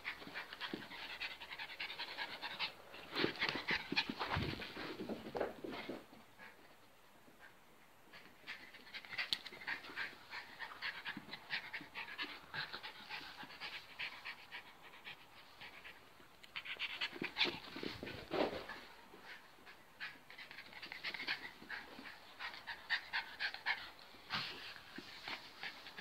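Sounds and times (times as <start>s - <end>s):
small dog panting: 0.0s - 6.7s, 7.3s - 26.0s.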